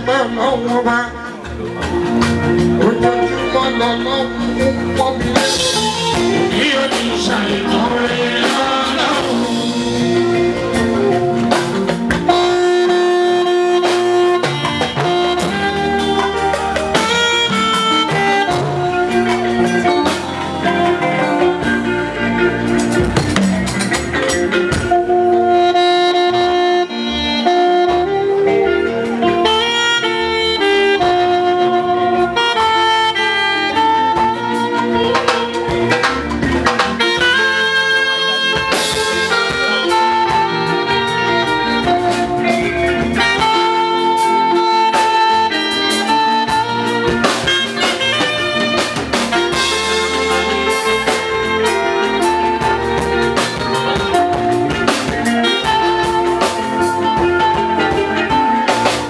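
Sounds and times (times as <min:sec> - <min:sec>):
drums and percussion: 0:00.0 - 0:59.0
melodic lead line: 0:00.0 - 0:59.0.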